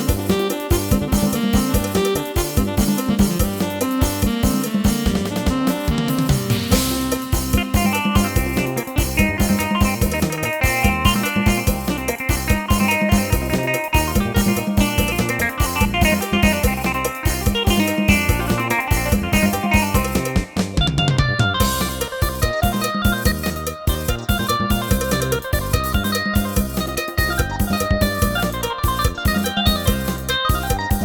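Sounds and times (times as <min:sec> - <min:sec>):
keyboard procession music: 0:00.0 - 0:31.0.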